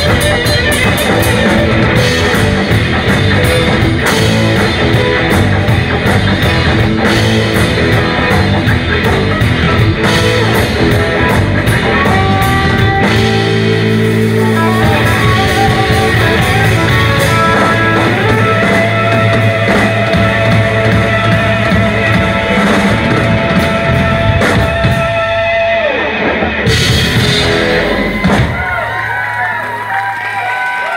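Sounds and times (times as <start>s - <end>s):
electric blues band playing: 0.0s - 30.9s.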